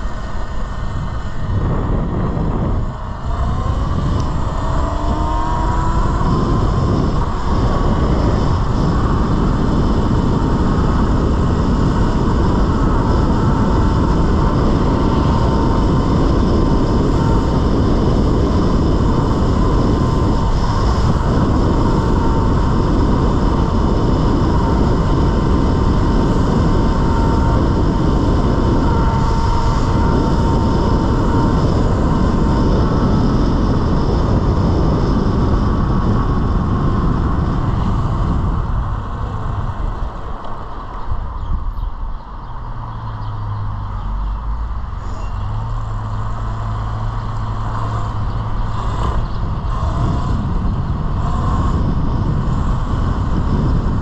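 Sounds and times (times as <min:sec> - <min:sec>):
electric motor whine: 0:00.0 - 0:54.0
loud rushing noise: 0:00.0 - 0:54.0.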